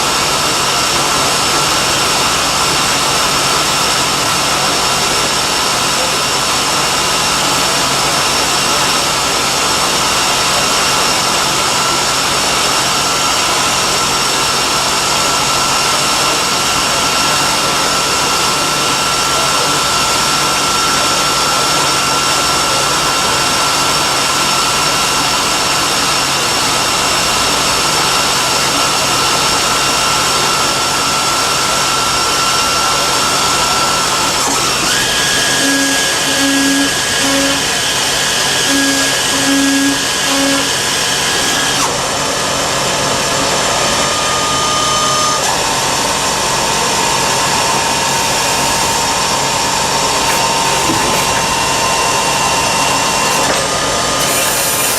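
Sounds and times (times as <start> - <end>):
lathe machining metal: 0.0 - 54.9.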